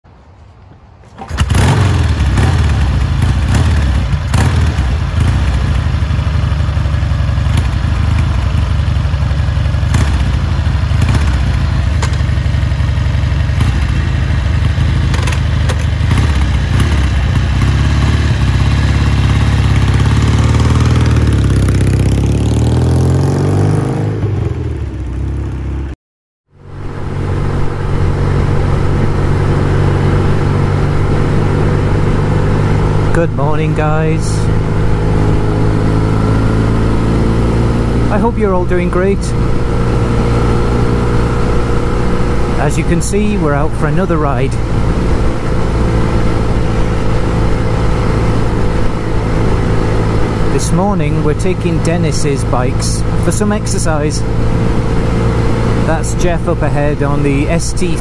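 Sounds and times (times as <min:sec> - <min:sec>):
motorcycle engine starting and running: 0:00.9 - 0:58.0.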